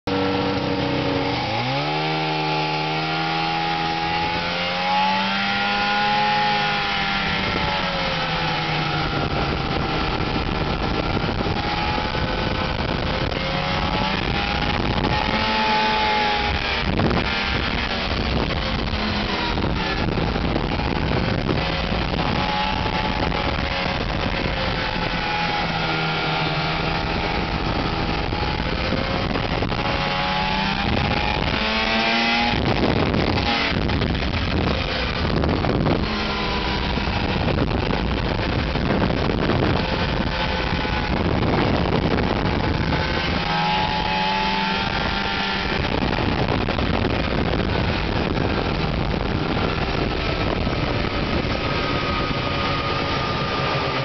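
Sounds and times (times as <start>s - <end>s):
steady rushing noise: 0.0s - 54.0s
snowmobile engine accelerating: 0.1s - 54.0s.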